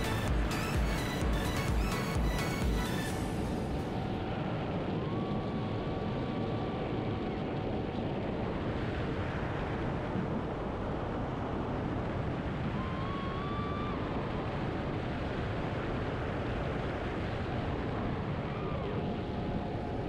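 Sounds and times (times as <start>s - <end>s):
wind rushing over microphone: 3.2s - 20.0s
faint thin whine: 3.3s - 20.0s.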